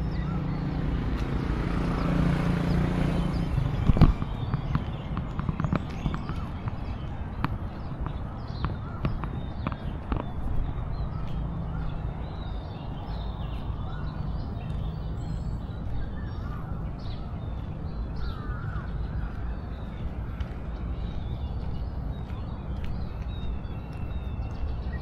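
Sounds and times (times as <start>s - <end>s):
footsteps on hard path: 0.0s - 25.0s
small birds chirping: 0.0s - 25.0s.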